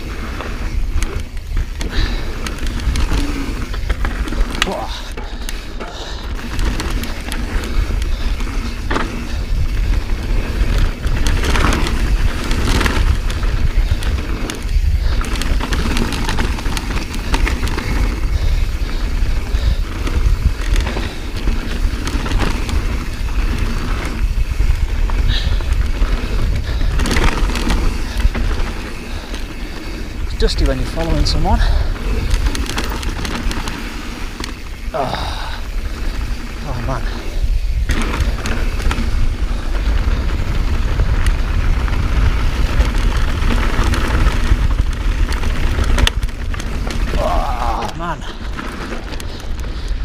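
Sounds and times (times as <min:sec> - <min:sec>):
bike rattling over bumps: 0:00.0 - 0:50.0
bike tyres rolling on dirt: 0:00.0 - 0:50.0
wind rumble on microphone: 0:00.0 - 0:50.0.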